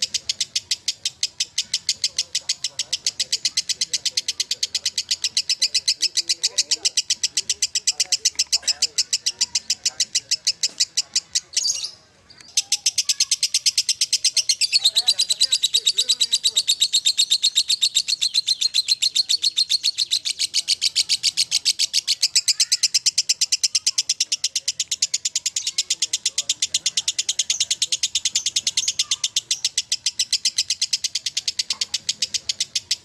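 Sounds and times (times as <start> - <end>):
lovebird chattering trill: 0.0 - 33.0.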